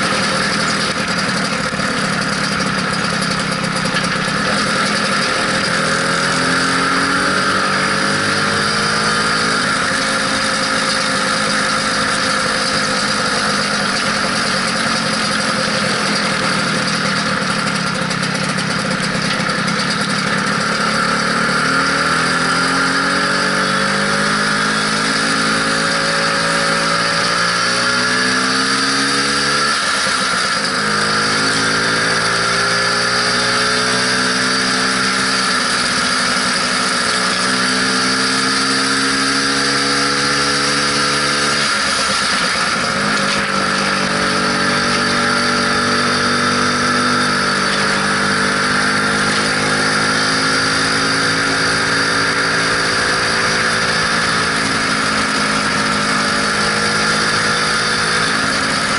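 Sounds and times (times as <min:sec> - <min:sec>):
scooter two-stroke engine running: 0:00.0 - 0:58.9.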